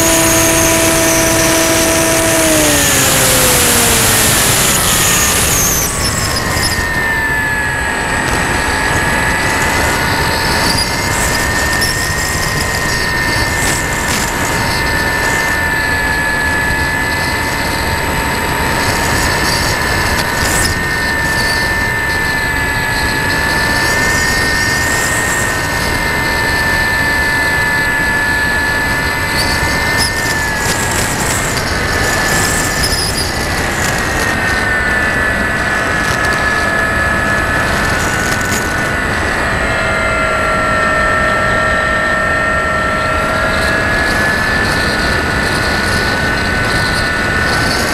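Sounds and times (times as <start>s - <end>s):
model aircraft motor whining: 0.0s - 47.9s.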